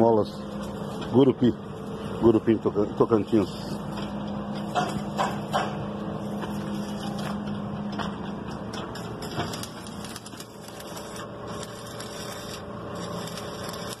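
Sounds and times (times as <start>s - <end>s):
steady hum: 0.0s - 14.0s
arc welder crackling: 0.4s - 14.0s.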